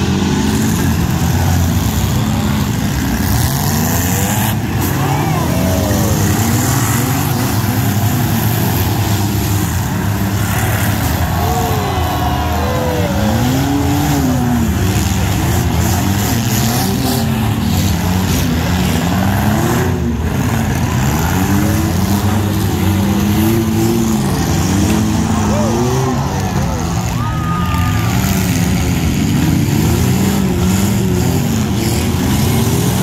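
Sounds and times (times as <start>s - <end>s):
car engines revving: 0.0s - 33.0s.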